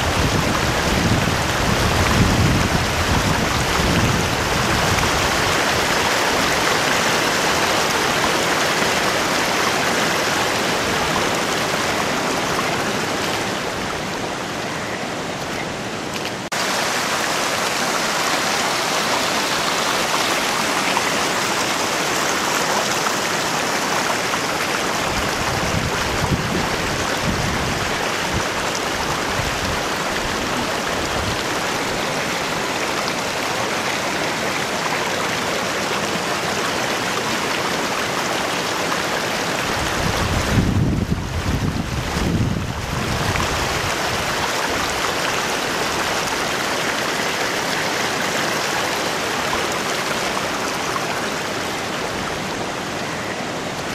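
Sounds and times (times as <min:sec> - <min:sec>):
rain downpour: 0:00.0 - 0:53.9.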